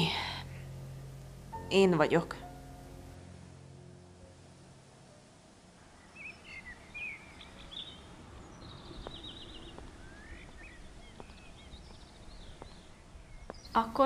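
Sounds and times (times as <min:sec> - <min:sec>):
outdoor background noise: 0:00.0 - 0:14.0
songbirds chirping: 0:00.0 - 0:14.0.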